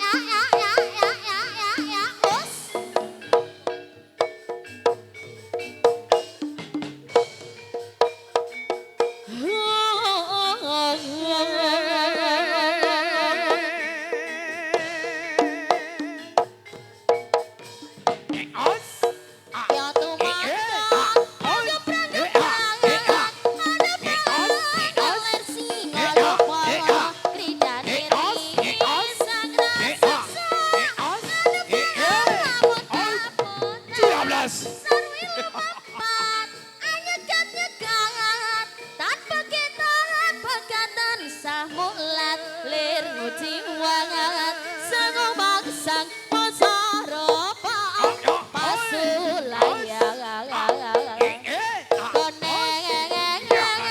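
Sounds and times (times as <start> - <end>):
drums and struck percussion: 0.0 - 53.9
wavering vibrato melody: 0.0 - 53.9
pitched melody lines: 10.8 - 53.9.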